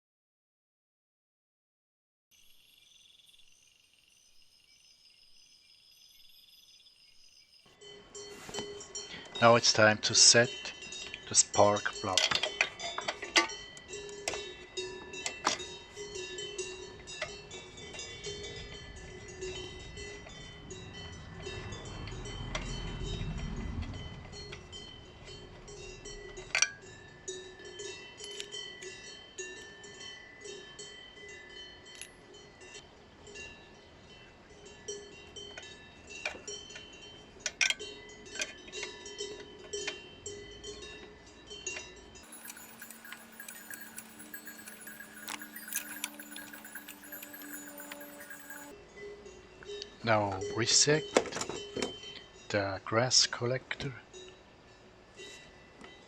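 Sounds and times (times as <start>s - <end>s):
soft chiming background music: 2.4s - 53.0s.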